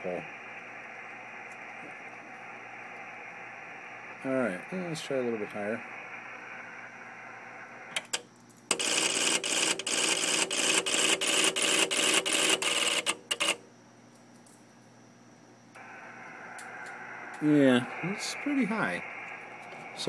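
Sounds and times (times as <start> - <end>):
antenna tuner relays chattering: 0.0 - 13.6, 15.8 - 20.0.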